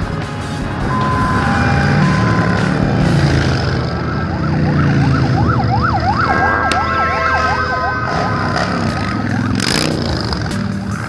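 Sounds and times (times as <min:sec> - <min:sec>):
motorcycle engines rumbling: 0:00.0 - 0:11.0
steady high tone: 0:00.7 - 0:10.1
fast wailing siren: 0:00.9 - 0:10.4.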